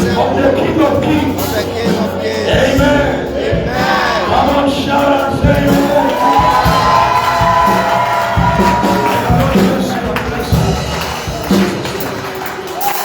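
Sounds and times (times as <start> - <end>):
low drum beats: 0.0 - 12.8
congregation cheering: 0.0 - 13.0
worship music: 0.0 - 13.0.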